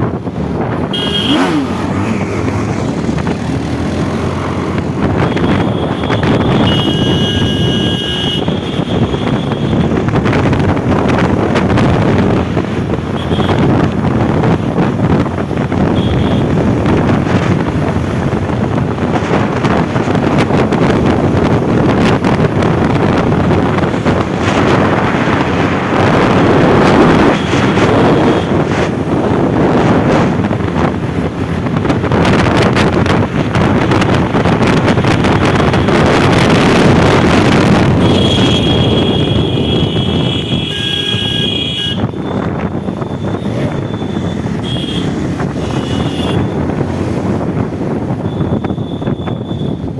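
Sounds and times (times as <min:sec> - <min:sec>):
motorcycle running: 0:00.0 - 0:49.9
wind buffeting microphone: 0:00.0 - 0:49.9.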